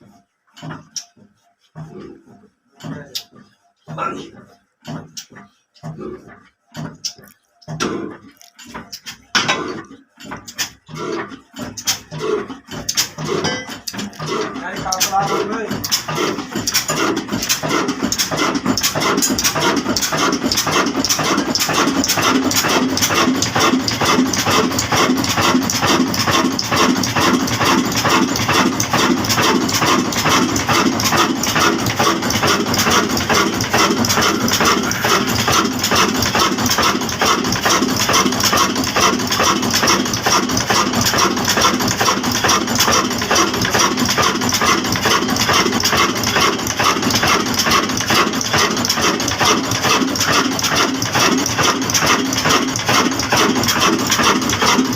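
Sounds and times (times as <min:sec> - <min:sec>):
diesel engine running steadily: 0:06.8 - 0:54.9.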